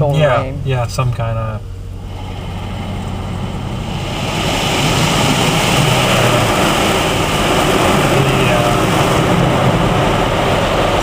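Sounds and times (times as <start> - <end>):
car wash machinery roaring: 0.0 - 11.0
low hum: 0.0 - 11.0.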